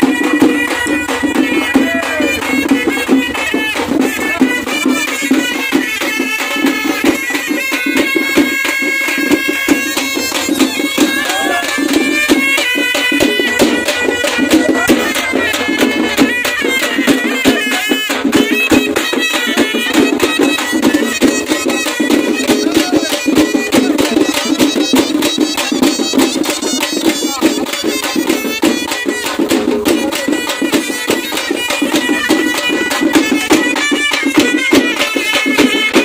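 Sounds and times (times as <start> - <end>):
fast steady drumming: 0.0 - 36.0
wind instrument melody: 0.0 - 36.0.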